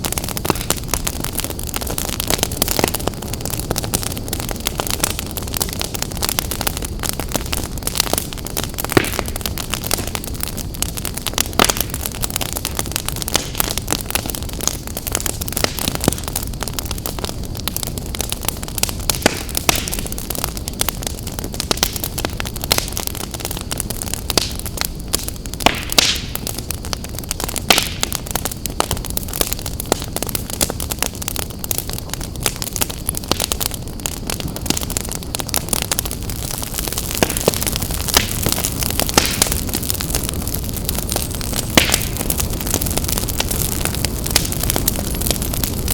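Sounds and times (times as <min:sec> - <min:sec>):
fire hiss: 0:00.0 - 0:45.9
wood fire crackling and popping: 0:00.0 - 0:45.9.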